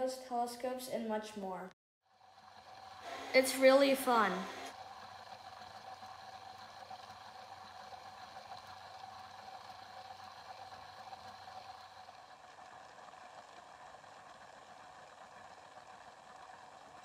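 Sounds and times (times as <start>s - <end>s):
small motor whirring: 2.1s - 17.0s.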